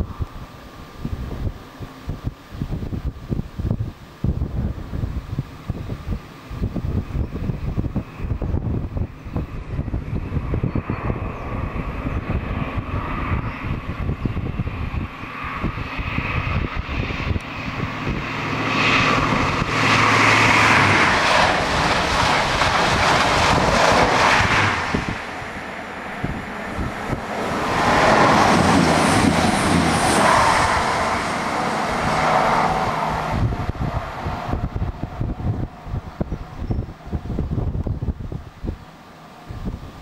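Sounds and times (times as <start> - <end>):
diesel train engine: 0.0 - 40.0
train wheels and air rushing: 0.0 - 40.0.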